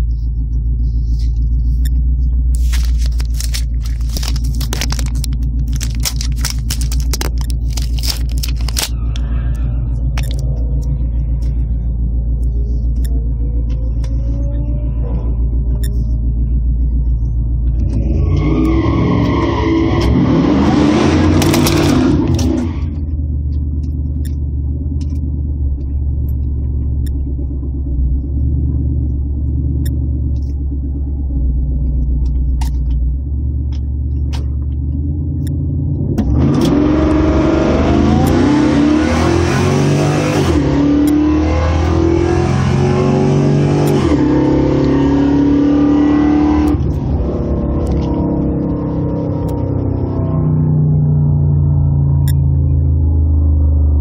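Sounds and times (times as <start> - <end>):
engine idle rumble: 0.0 - 18.9, 21.2 - 38.3, 46.7 - 54.0
full-throttle launch with gear changes: 0.0 - 54.0
pickup engines revving: 0.7 - 31.2, 32.2 - 54.0.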